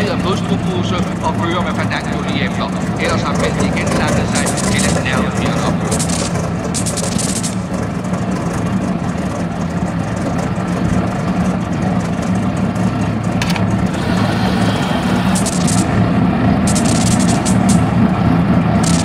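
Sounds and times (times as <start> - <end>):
racing car engine idling: 0.0 - 19.0.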